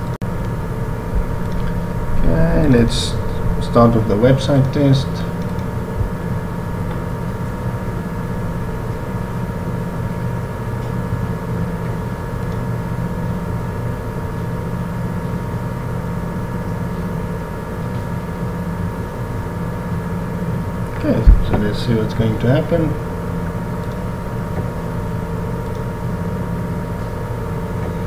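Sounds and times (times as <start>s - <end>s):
machine hum with whining tones: 0.0s - 28.0s.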